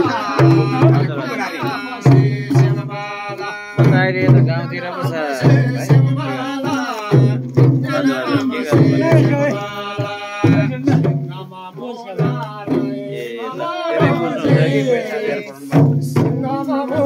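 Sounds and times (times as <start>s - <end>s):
frame drums beaten by hand: 0.0s - 17.0s
men singing folk song: 0.0s - 17.0s.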